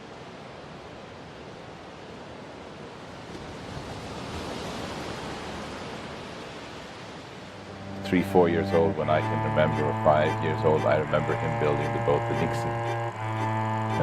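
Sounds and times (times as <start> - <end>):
sea waves rushing: 0.0 - 14.0
wind: 0.0 - 14.0.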